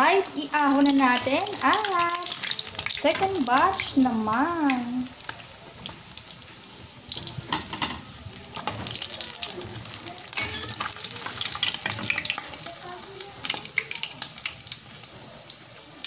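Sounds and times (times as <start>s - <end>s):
fish frying in hot oil: 0.0s - 16.0s
oil crackling and popping: 0.3s - 16.0s.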